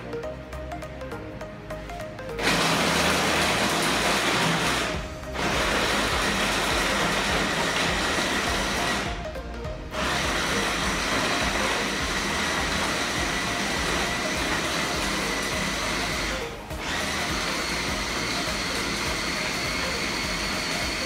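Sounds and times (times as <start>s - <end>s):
meat chopper motor whine: 2.4s - 9.2s, 9.9s - 21.0s.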